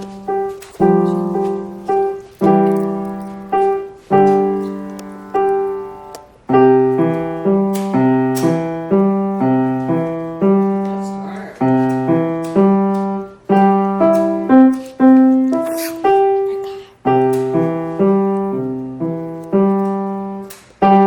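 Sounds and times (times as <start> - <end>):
piano notes played slowly: 0.0 - 21.0.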